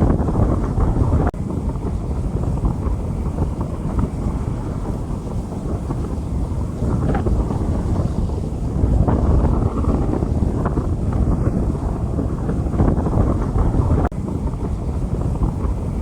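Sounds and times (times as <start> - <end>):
deep rumble: 0.0 - 16.0
rain falling on a street: 0.0 - 16.0.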